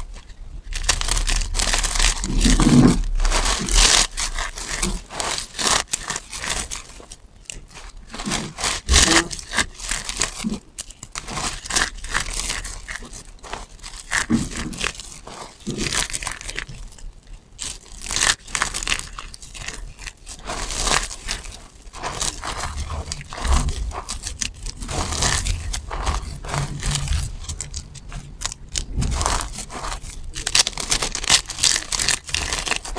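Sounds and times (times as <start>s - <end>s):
hands crushing soap shavings: 0.0s - 32.9s.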